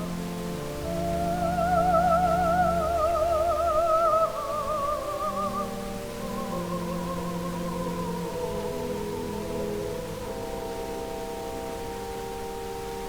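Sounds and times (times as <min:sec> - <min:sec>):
solo melody with vibrato: 0:00.0 - 0:13.0
sustained accompaniment chords: 0:00.0 - 0:13.0.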